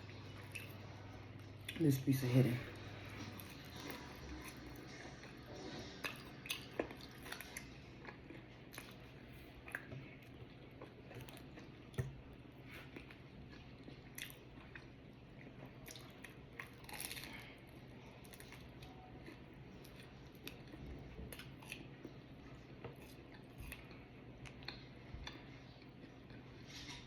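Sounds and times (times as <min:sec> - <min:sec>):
chewing and crunching food: 0:00.0 - 0:27.0.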